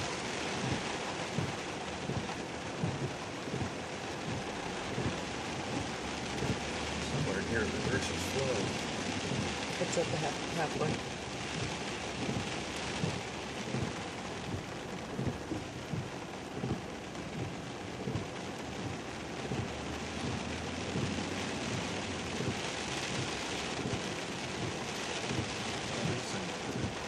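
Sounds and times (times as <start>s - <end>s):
floodwater rushing through ditch: 0.0s - 27.0s
low thumps: 0.1s - 7.3s, 8.6s - 27.0s.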